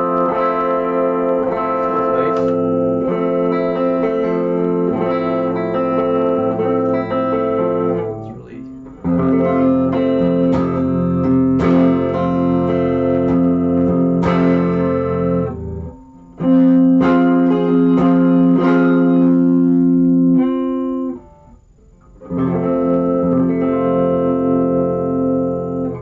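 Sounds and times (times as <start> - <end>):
electric guitar chord strums: 0.0 - 26.0.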